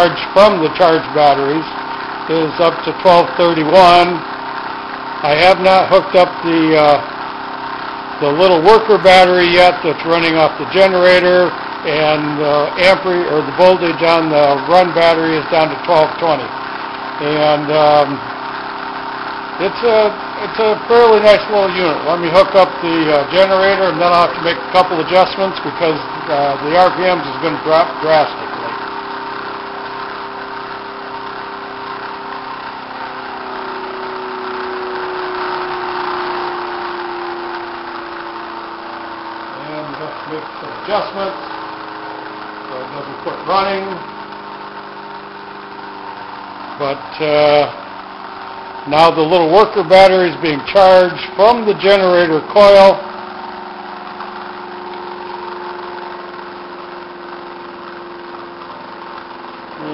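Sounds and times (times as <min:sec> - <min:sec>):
pulse motor whirring hum: 0:00.0 - 0:59.9.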